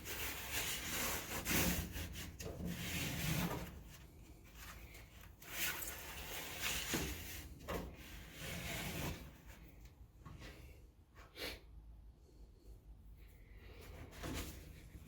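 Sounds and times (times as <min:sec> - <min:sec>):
rustling and scraping: 0:00.0 - 0:10.8, 0:13.4 - 0:15.0.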